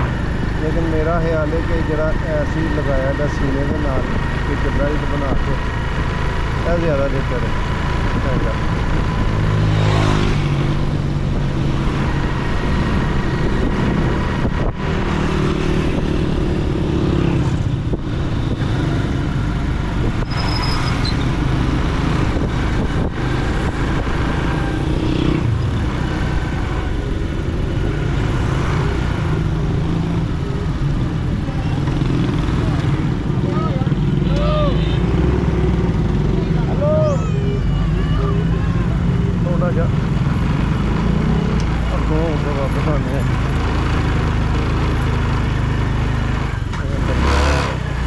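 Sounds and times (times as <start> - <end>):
motorcycle engine riding: 0.0 - 48.0
road and wind noise: 0.0 - 48.0.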